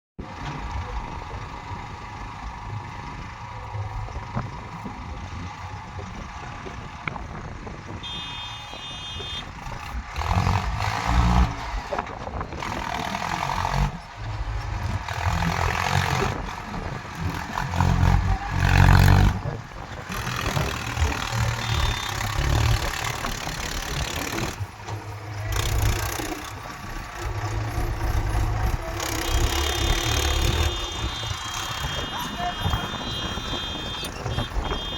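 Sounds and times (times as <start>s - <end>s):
diesel engines revving: 0.2s - 34.9s.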